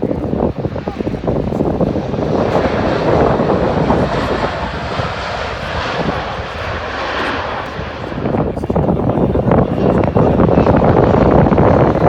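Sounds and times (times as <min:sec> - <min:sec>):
aircraft engines passing close: 0:00.0 - 0:12.0.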